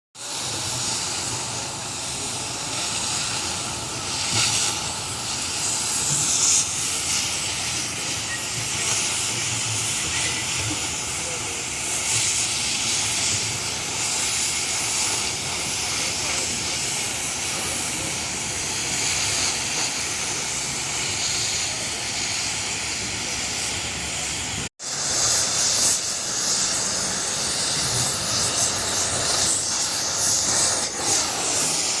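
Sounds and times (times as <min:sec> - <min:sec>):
gas cutting torch hissing: 0:00.2 - 0:32.0.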